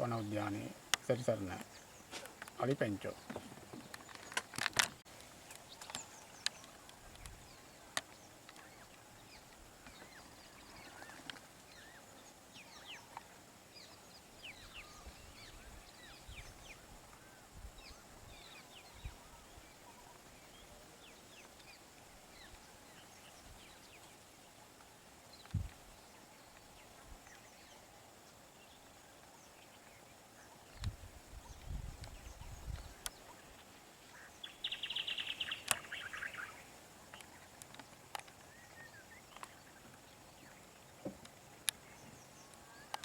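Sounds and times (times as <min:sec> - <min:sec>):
low outdoor hiss: 0:00.0 - 0:43.0
small birds chirping: 0:00.0 - 0:43.0.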